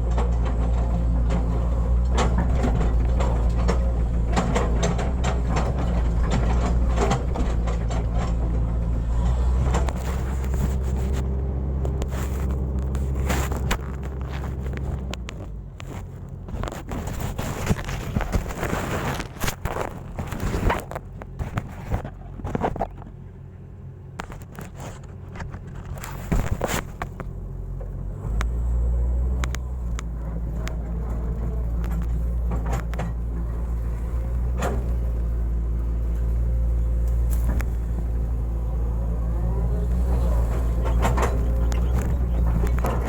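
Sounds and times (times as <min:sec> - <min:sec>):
excavator diesel engine: 0:00.0 - 0:43.0.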